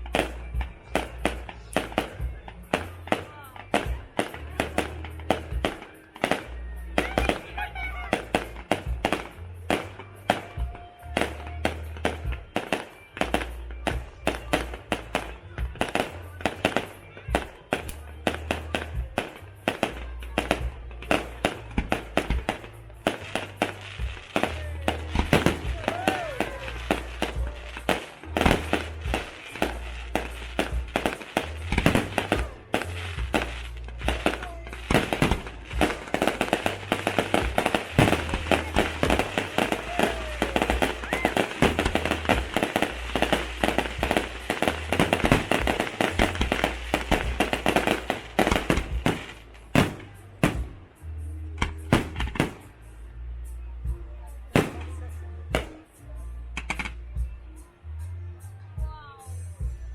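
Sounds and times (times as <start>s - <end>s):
fireworks bangs and cracks: 0.0s - 52.9s, 53.8s - 56.0s.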